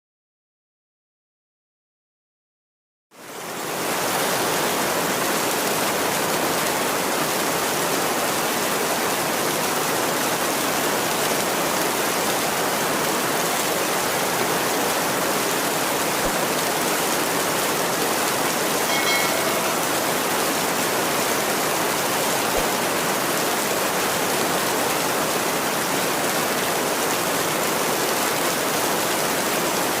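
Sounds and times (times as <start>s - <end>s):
heavy rain: 3.2s - 30.0s.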